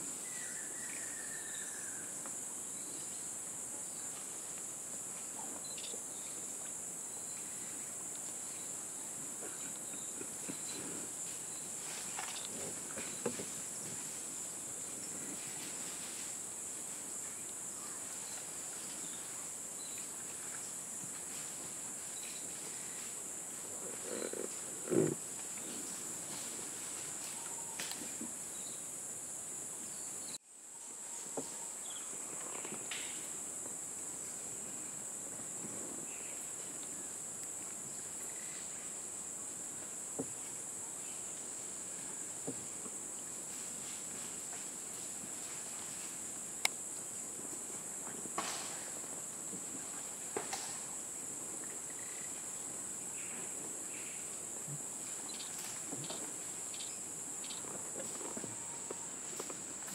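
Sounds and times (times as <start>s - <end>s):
high-pitched insect chorus: 0.0s - 59.9s
faint rustles: 4.0s - 28.7s, 35.2s - 59.9s.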